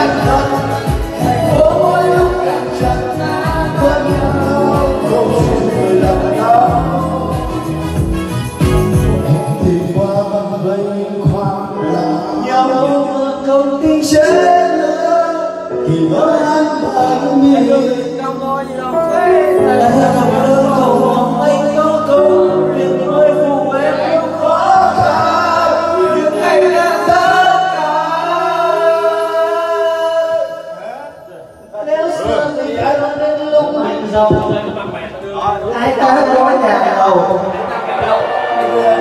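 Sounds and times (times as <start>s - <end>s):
men singing karaoke: 0.0s - 39.0s
music backing track: 0.0s - 39.0s.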